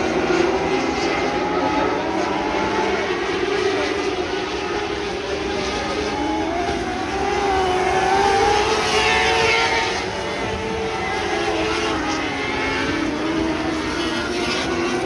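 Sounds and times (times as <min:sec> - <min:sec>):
sprint car engines racing: 0:00.0 - 0:15.0.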